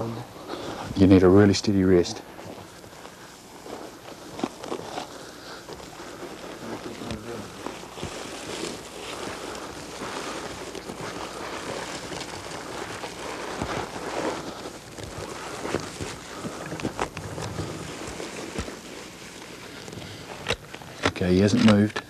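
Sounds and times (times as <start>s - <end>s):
scrub brush rustling: 2.2s - 20.4s.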